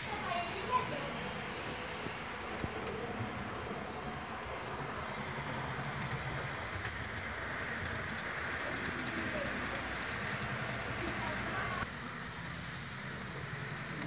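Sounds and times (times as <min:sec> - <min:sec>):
model trains rumbling on track: 0:00.0 - 0:14.0.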